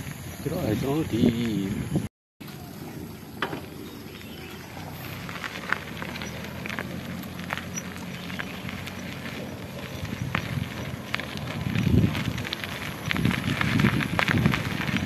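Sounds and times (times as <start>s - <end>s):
bicycle tyres rumbling on dirt: 0.0s - 15.0s.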